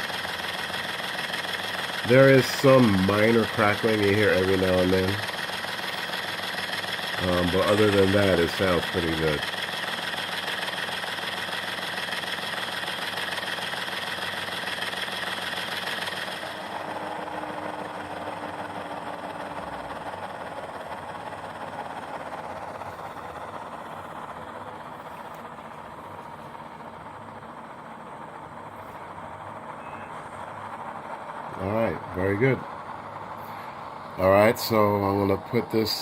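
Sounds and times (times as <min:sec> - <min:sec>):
diesel engine sound from speakers: 0:00.0 - 0:36.0.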